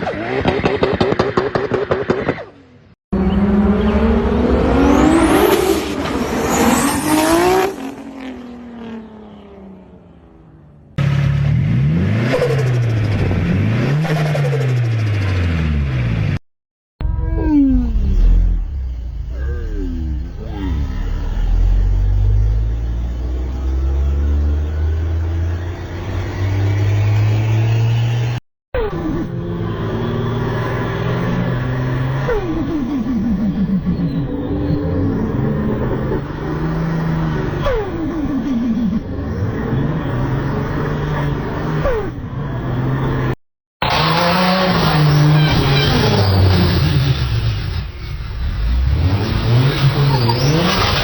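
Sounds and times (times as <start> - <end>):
car engine accelerating: 0.0 - 16.4, 17.0 - 47.7.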